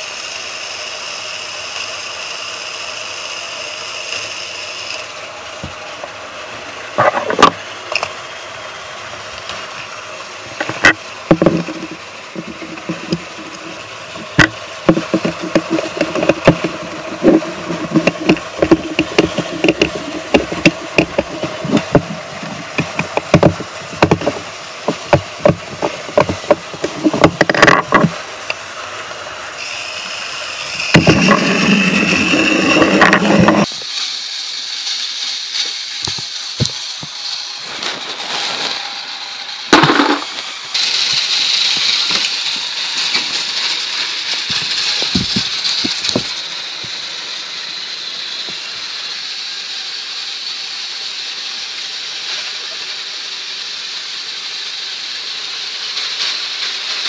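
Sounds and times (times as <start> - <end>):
toy train motor whirring: 0.0 - 57.0.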